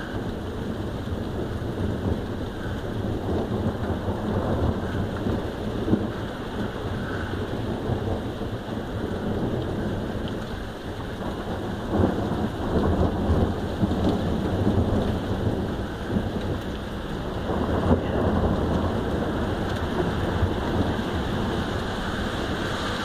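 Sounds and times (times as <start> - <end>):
heavy rain: 0.0 - 23.0
thunder rumbling: 0.0 - 23.0.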